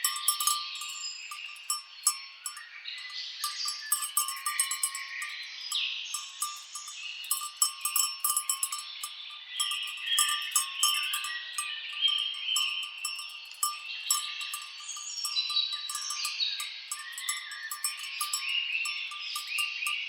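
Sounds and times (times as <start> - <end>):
birds singing and chirping: 0.0 - 20.0
cattle bells clanking: 0.0 - 20.0.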